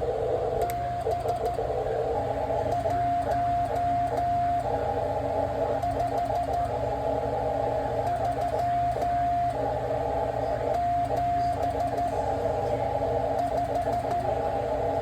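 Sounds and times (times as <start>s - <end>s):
radio band noise hiss: 0.0s - 15.0s.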